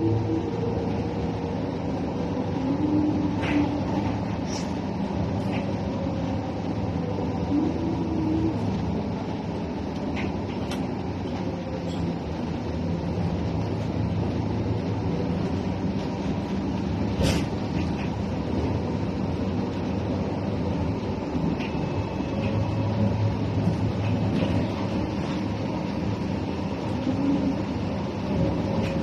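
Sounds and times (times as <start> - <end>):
moving vehicle rumble: 0.0 - 29.0.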